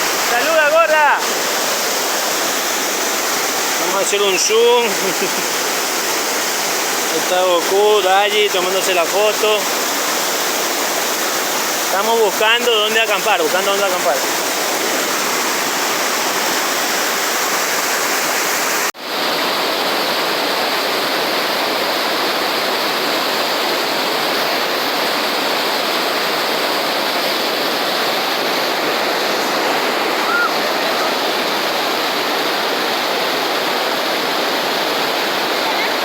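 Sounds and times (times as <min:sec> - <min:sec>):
mountain water rushing: 0:00.0 - 0:36.0.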